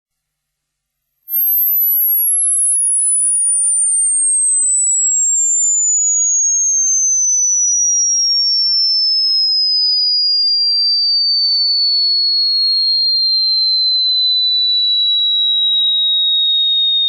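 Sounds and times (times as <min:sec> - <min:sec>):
electronic sine tone sweeping downward: 0:01.3 - 0:17.0.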